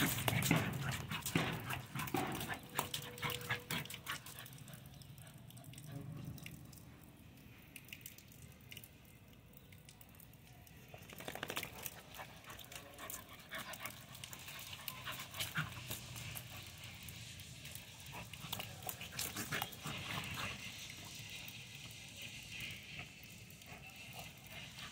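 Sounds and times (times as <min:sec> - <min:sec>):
puppy splashing through puddle: 0:00.0 - 0:24.9.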